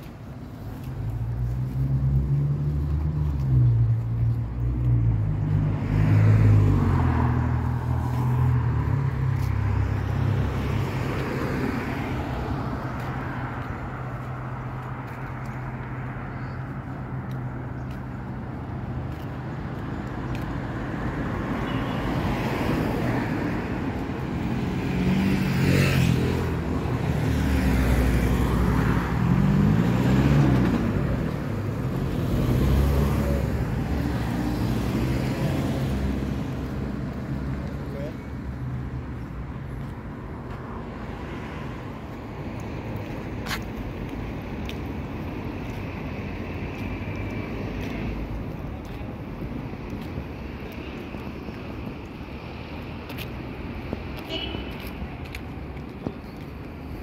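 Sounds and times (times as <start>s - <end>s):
cars driving past: 0.0s - 57.0s
general street noise: 0.0s - 57.0s.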